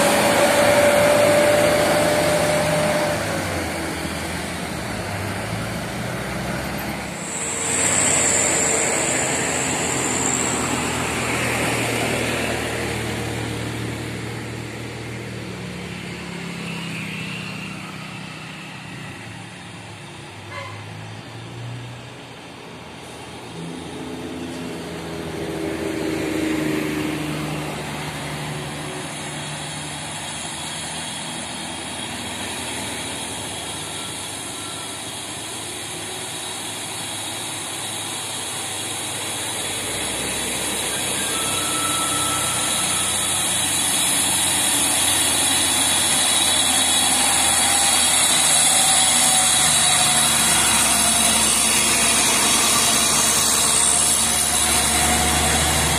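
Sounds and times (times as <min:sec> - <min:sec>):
diesel truck engine climbing: 0:00.0 - 0:55.9.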